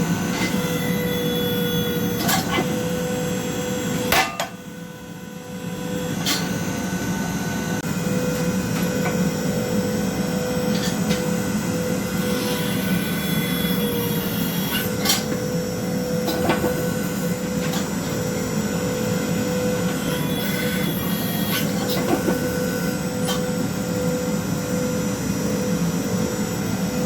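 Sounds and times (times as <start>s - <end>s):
forging press humming: 0.0s - 25.2s.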